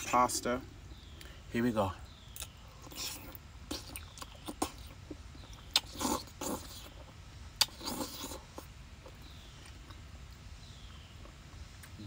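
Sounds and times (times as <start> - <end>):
soft chewing: 2.2 - 12.0.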